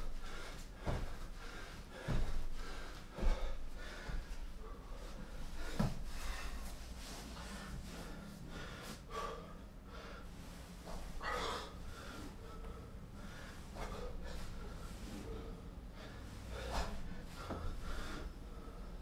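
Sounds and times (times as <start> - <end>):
man breathing hard: 0.0 - 19.0.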